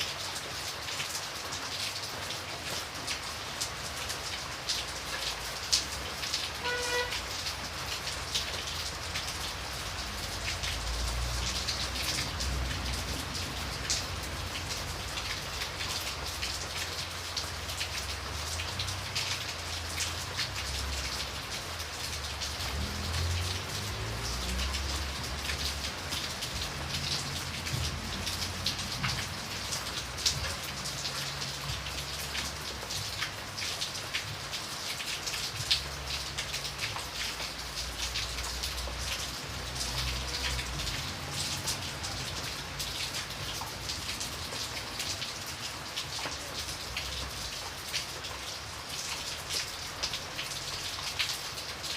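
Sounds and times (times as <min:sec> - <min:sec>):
raindrops ticking: 0:00.0 - 0:51.9
steady rain: 0:00.0 - 0:51.9.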